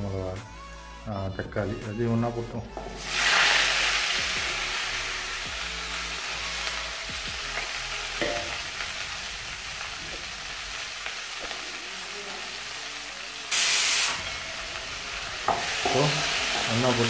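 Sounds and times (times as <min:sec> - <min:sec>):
vegetables sizzling in hot oil: 0:02.9 - 0:17.0.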